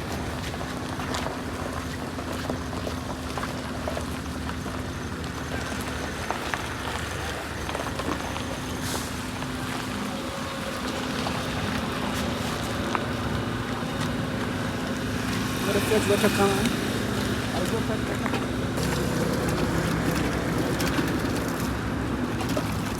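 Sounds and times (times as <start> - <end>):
mechanical hum: 0.0 - 22.9.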